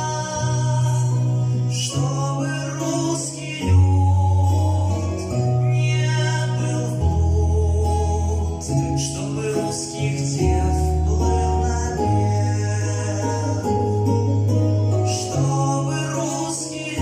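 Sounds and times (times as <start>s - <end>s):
backing track with bass line: 0.0s - 17.0s
person singing into microphone: 0.0s - 17.0s.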